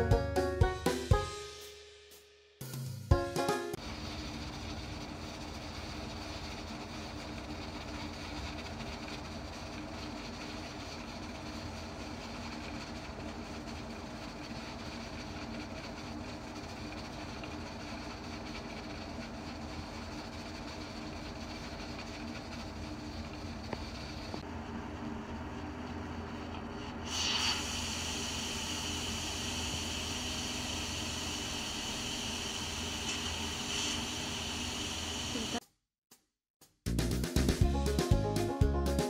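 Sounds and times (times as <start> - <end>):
gas burner rumbling: 3.8 - 35.6.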